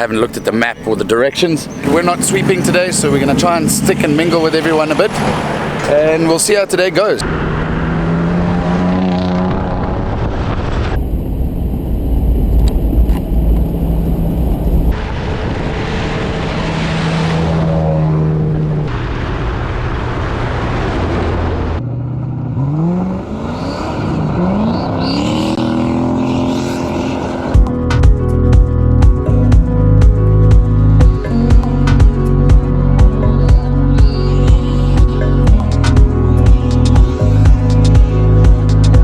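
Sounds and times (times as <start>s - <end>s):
engine revving: 0.0s - 12.0s, 12.6s - 39.0s
car engines running: 0.0s - 39.0s.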